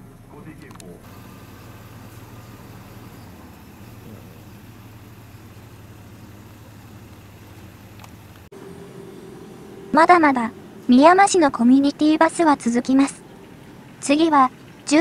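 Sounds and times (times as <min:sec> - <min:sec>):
minibus engine idling: 0:00.0 - 0:15.0.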